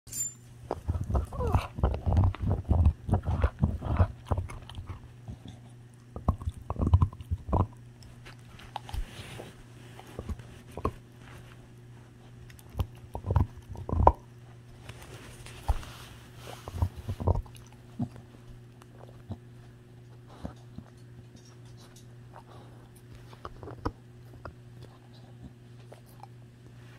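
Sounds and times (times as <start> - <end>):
dog chewing bone: 0.6 - 26.4.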